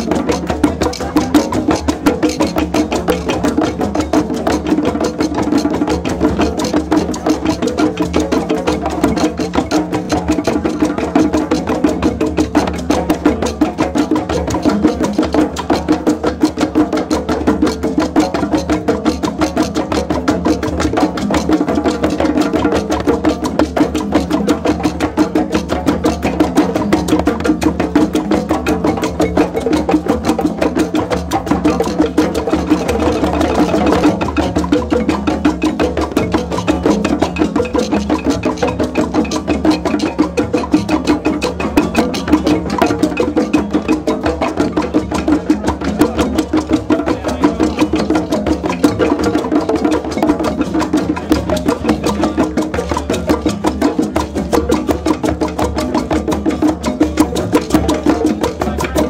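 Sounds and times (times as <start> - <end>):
hand drums playing rhythm: 0.0 - 59.0.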